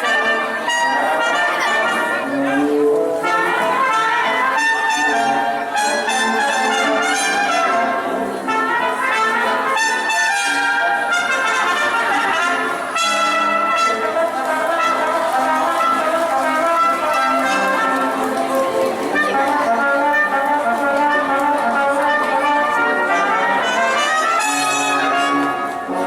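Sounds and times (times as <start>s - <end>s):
brass band music over speakers: 0.0s - 26.0s.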